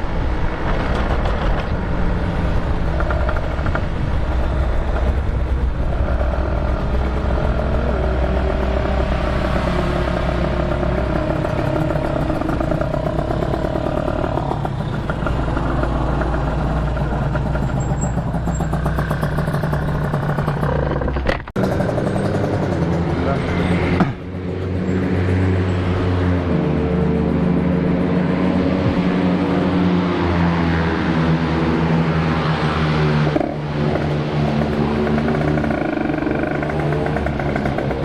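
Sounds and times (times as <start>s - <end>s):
motorcycle engine running: 1.3s - 29.9s, 33.1s - 38.0s.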